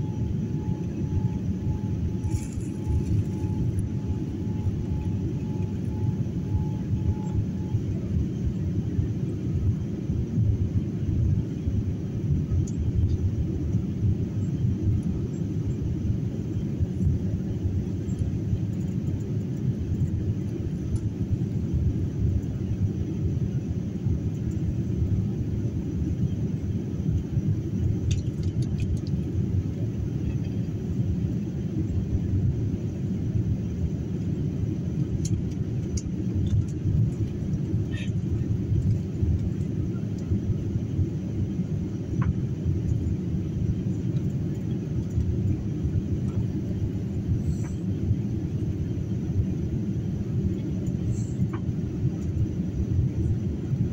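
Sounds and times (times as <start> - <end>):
airliner cabin rumble: 0.0 - 53.9
faint thin whine: 0.0 - 53.9.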